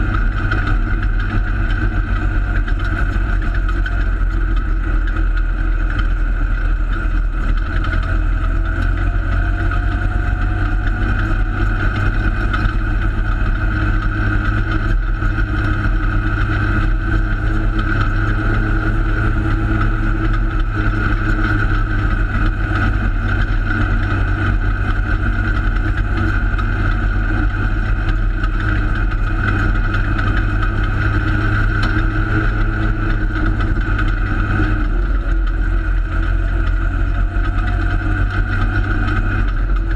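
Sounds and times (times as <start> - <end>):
car rumbling on dirt track: 0.0 - 39.9
race car engine running: 0.0 - 39.9.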